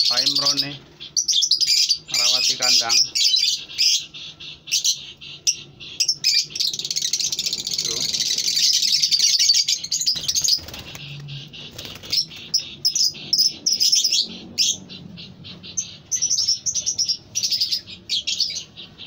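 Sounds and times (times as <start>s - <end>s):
lovebirds chirping: 0.0s - 19.0s.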